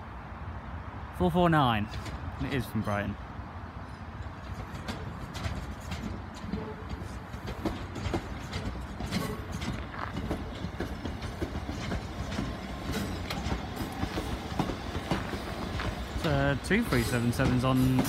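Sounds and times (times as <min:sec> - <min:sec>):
train rumbling past: 0:00.0 - 0:18.0
wheels clicking over track joints: 0:01.8 - 0:02.5, 0:04.1 - 0:18.0.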